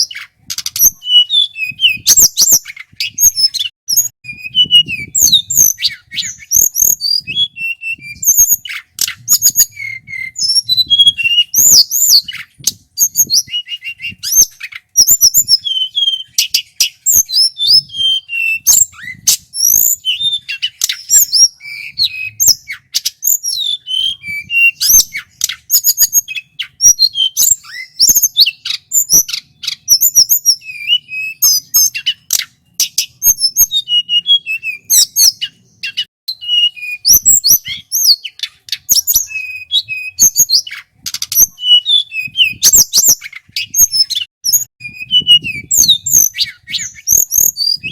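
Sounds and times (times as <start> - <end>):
flycatcher singing whistled notes: 0.0 - 47.9.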